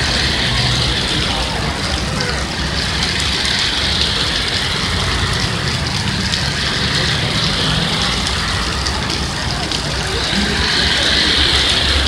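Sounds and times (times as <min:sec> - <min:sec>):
cars driving on wet street: 0:00.0 - 0:12.0
heavy rain falling: 0:00.0 - 0:12.0.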